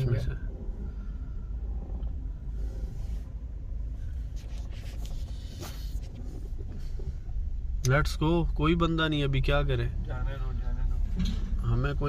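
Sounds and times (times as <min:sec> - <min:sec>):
car rumbling from inside cabin: 0:00.0 - 0:12.0.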